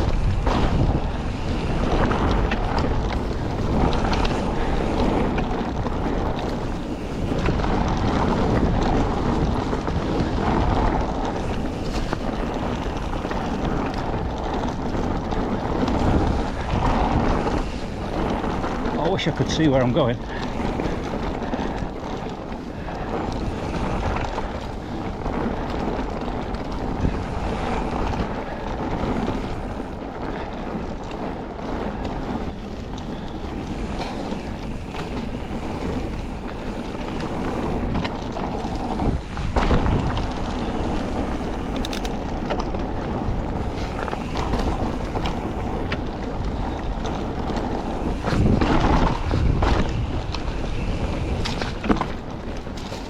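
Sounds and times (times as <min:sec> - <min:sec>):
bike rattling over bumps: 0:00.0 - 0:53.0
tyres rumbling on dirt: 0:00.0 - 0:53.0
wind rushing over microphone: 0:00.0 - 0:53.0.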